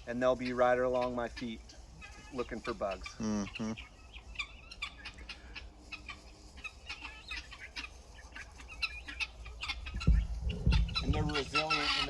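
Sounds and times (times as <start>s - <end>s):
guinea fowl clucking: 0.0s - 12.0s.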